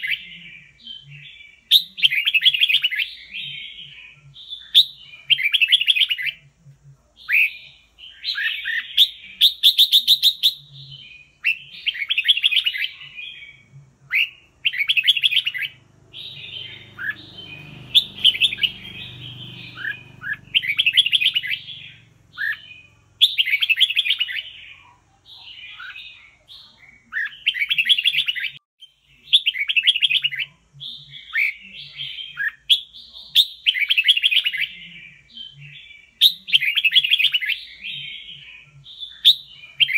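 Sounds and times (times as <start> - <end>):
bird singing trilled phrases: 0.0 - 6.5, 7.2 - 39.9.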